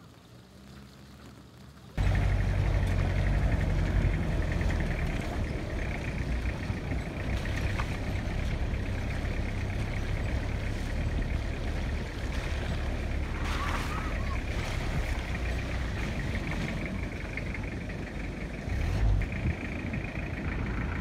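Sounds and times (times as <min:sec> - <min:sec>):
engine drone inside vehicle: 0:00.0 - 0:21.0
tyres on rough dirt track: 0:00.0 - 0:21.0.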